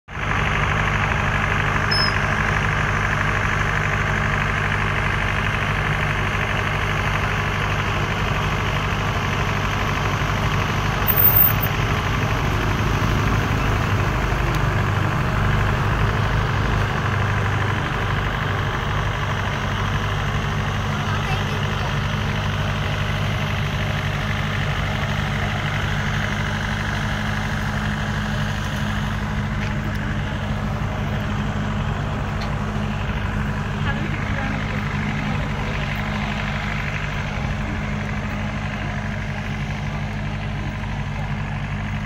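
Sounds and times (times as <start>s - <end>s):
engine idling: 0.1s - 42.0s.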